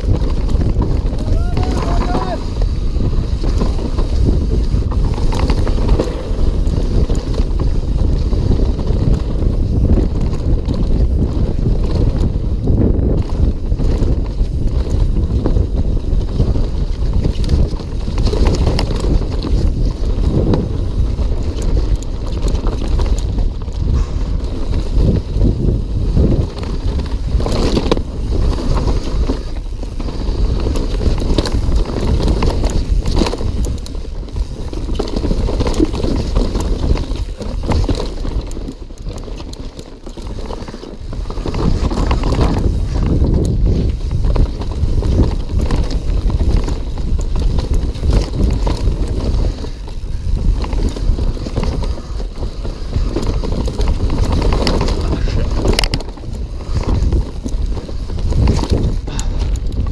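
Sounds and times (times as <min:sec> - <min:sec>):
bike tyres rumbling over rock: 0:00.0 - 0:59.9
wind noise on microphone: 0:00.0 - 0:59.9.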